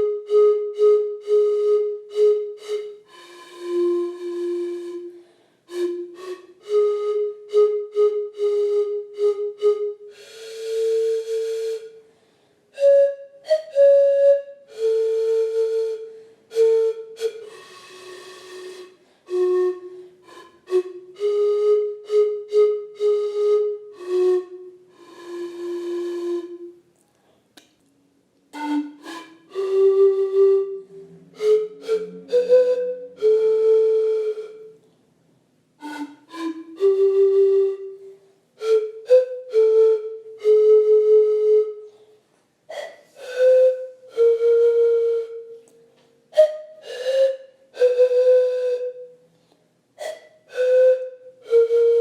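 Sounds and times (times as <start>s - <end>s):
breathy panpipe notes: 0.0s - 27.1s, 28.5s - 35.0s, 35.8s - 52.0s.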